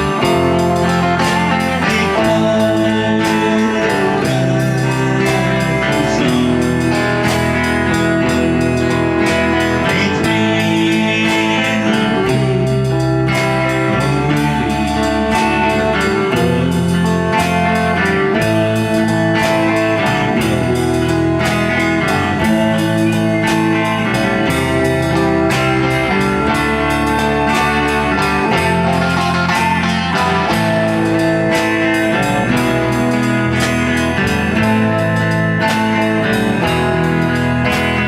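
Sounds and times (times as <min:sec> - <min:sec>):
lead guitar: 0:00.0 - 0:38.0
live blues band playing: 0:00.0 - 0:38.0.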